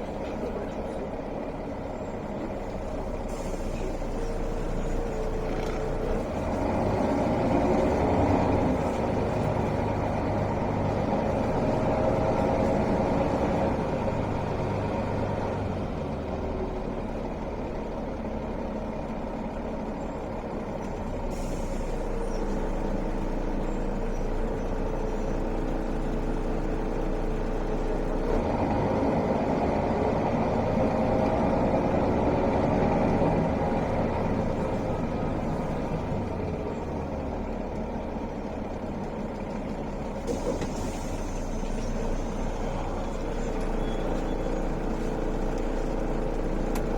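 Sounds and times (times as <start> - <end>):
bus diesel engine from inside: 0.0 - 46.9.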